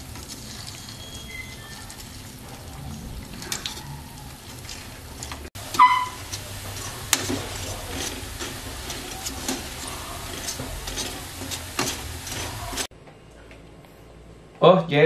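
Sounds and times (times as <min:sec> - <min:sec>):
oil sizzling in a pot: 0:00.0 - 0:12.9.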